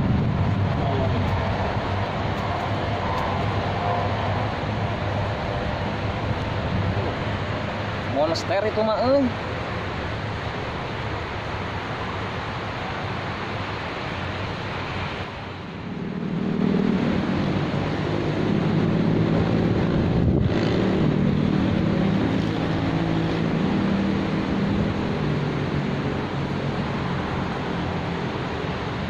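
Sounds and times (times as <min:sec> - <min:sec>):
engine hum: 0:00.0 - 0:29.0
wind noise on microphone: 0:00.0 - 0:29.0.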